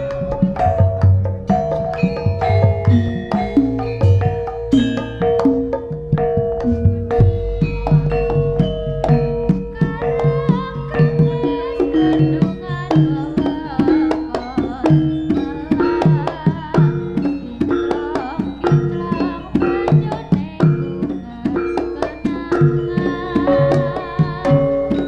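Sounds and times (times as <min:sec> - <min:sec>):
hand drums beating driving rhythm: 0:00.0 - 0:25.0
metallophone tones: 0:00.0 - 0:25.0
wavering melody line: 0:00.0 - 0:25.0.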